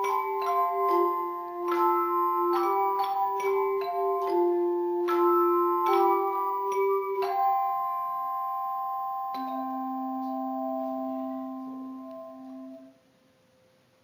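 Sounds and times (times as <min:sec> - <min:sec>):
handbell chords ringing: 0:00.0 - 0:12.9
low bell: 0:00.0 - 0:12.9.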